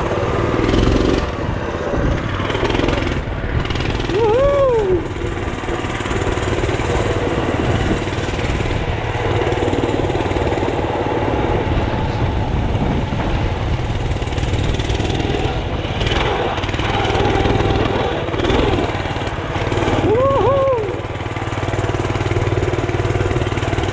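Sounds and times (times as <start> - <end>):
mini bike engine running: 0.0 - 23.9.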